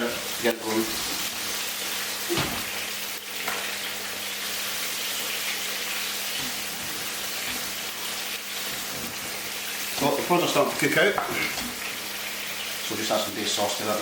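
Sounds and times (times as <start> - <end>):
sauce sizzling in frying pan: 0.0 - 14.0.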